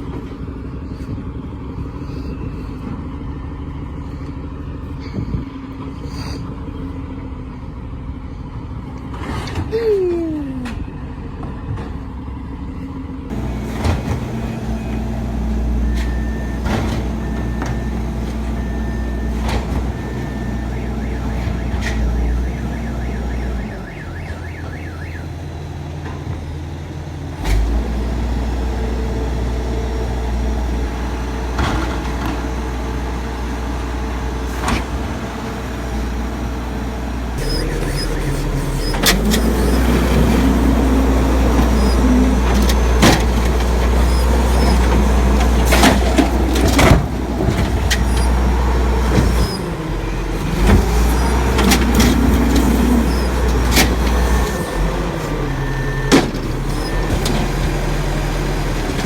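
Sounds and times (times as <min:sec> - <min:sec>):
garbage truck engine running: 0:10.5 - 0:59.0.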